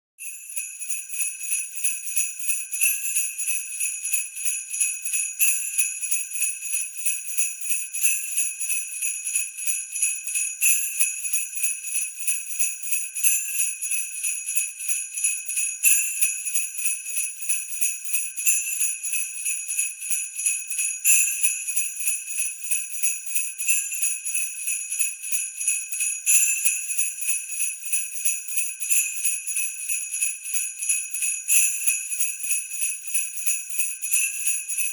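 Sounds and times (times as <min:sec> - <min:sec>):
sleigh bells jingling: 0:00.2 - 0:34.9.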